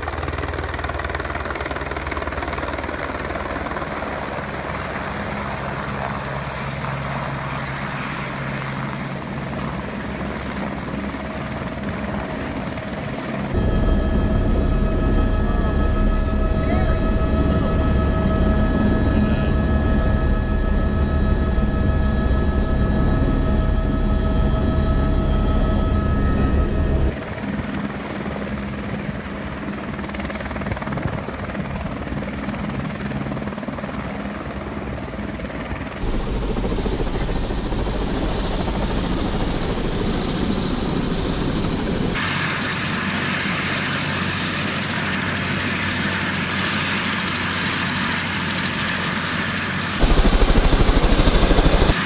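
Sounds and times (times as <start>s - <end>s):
helicopter rotor and turbine whine: 0.0s - 52.0s.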